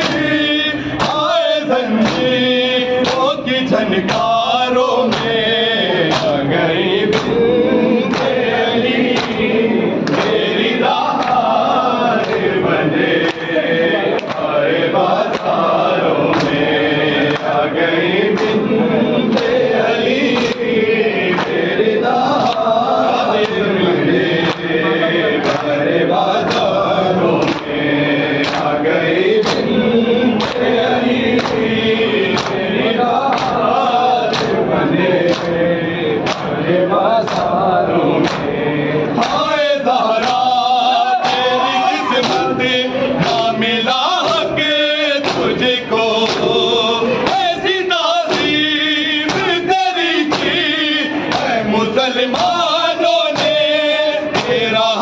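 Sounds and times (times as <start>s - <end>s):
chests struck in a steady beat: 0.0s - 55.0s
men chanting in chorus: 0.0s - 55.0s.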